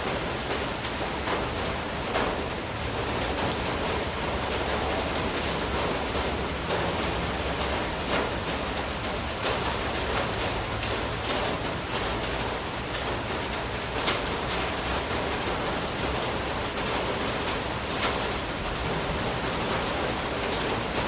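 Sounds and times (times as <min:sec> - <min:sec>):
rain falling steadily: 0:00.0 - 0:21.0
raindrops tapping surfaces: 0:00.0 - 0:21.0.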